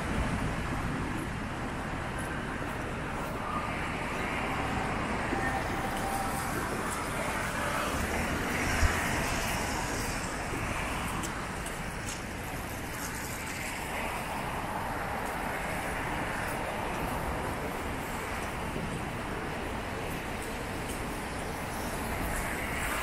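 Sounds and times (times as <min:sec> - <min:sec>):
city street traffic: 0:00.0 - 0:23.0.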